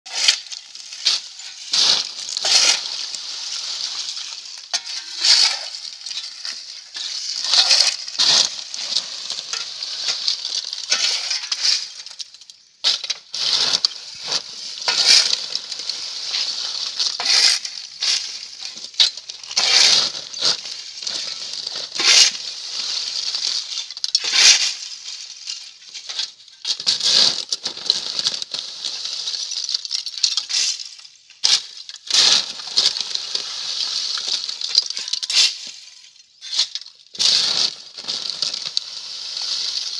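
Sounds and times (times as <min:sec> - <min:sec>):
boots crunching charcoal: 0:00.1 - 0:39.9
shovel digging charcoal: 0:00.1 - 0:39.9.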